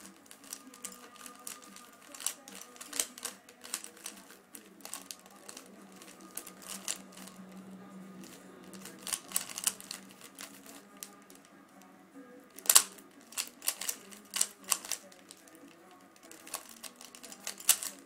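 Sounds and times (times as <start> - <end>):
puzzle cube clacking: 0.0 - 11.9, 12.5 - 18.0.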